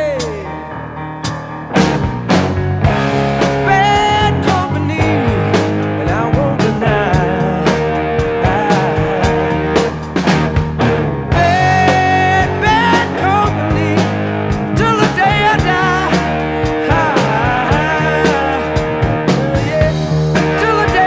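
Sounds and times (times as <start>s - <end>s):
rock music with singing: 0.0s - 21.0s.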